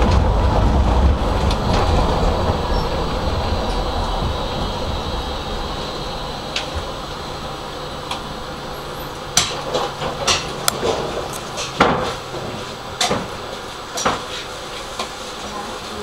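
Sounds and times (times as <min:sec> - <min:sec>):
tram equipment humming: 0:00.0 - 0:16.0.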